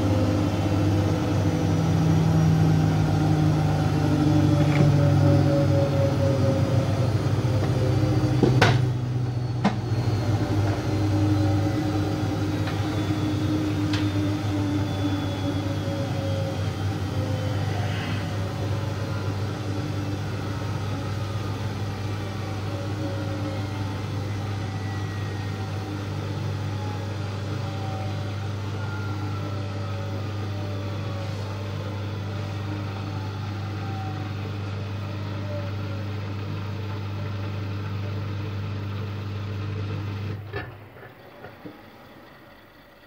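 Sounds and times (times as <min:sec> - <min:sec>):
washing machine drum whine: 0:00.0 - 0:43.0
washing machine hum: 0:00.0 - 0:43.0.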